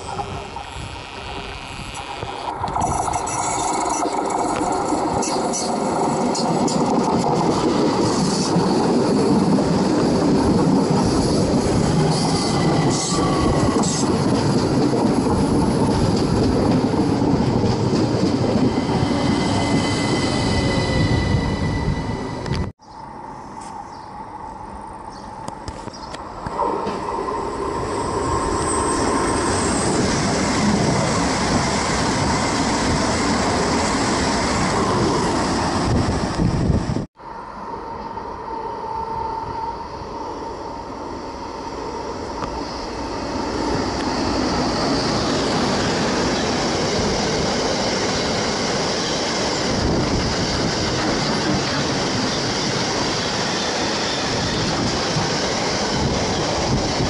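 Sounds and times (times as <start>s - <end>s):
train wheels rumbling on track: 0.0s - 22.8s, 25.5s - 37.1s, 40.8s - 57.0s
freight train passing: 0.0s - 57.0s.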